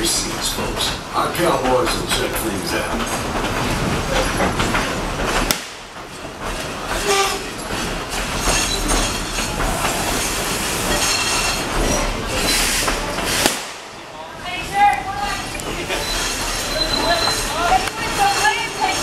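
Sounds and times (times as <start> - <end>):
steam train running: 0.0 - 19.0
train cars rattling over track: 0.0 - 19.0.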